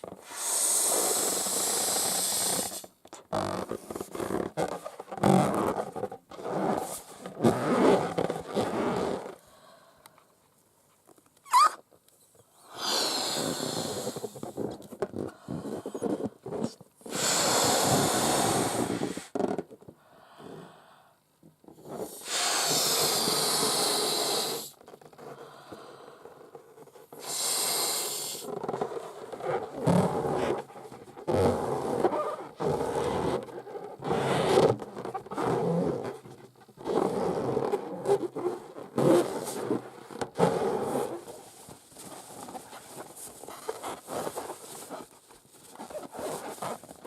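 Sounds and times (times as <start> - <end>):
nails scratching a rubber balloon: 0.0 - 9.4, 11.5 - 11.8, 12.7 - 19.8, 21.7 - 25.4, 26.2 - 47.0.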